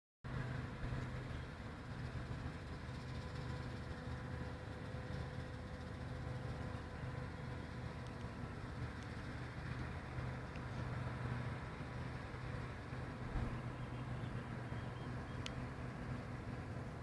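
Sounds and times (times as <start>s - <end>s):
combine harvester engine running: 0.3s - 17.0s.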